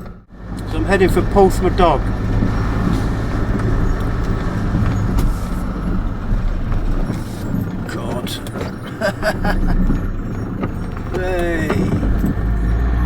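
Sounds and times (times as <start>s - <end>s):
engine hum: 0.0s - 13.0s
tyre and road noise: 0.0s - 13.0s.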